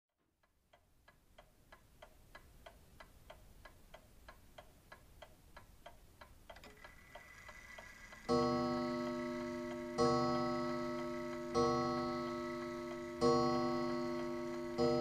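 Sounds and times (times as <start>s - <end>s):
clock ticking: 0.2s - 15.0s.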